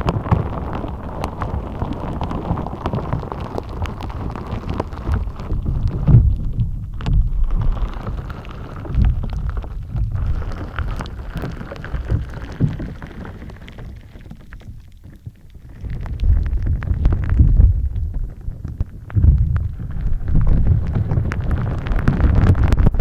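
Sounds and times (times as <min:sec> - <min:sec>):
slime being squished: 0:00.0 - 0:23.0.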